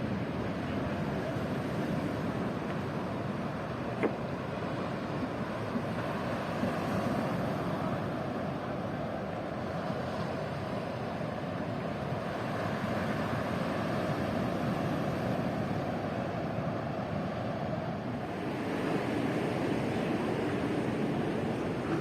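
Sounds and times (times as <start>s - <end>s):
surf: 0.0s - 22.0s.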